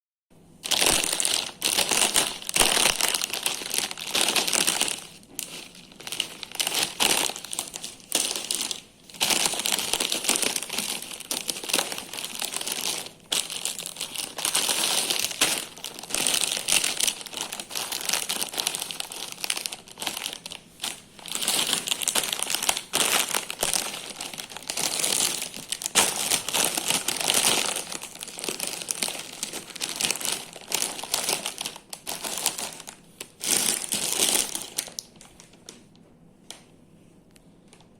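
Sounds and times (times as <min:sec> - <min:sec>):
snack packaging crinkling: 0:00.6 - 0:35.8.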